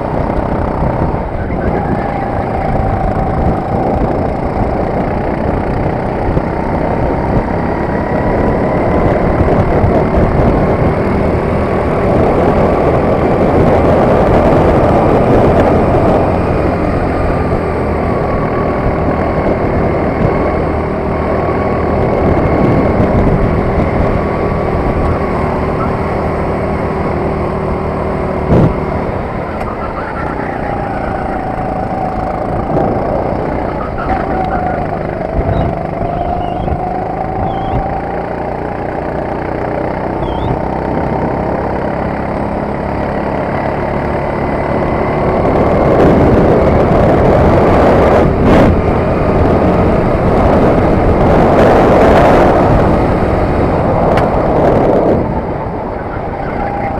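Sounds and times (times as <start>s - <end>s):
kart engine running: 0.0s - 56.9s.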